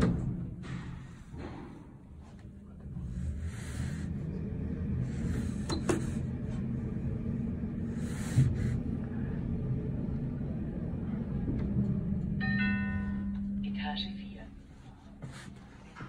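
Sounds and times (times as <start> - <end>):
lift hum and rumble: 0.0 - 16.0.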